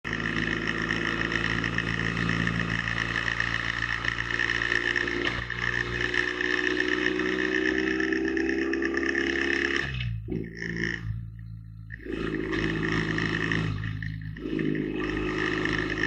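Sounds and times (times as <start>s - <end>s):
motorcycle engine at speed: 0.0s - 16.0s.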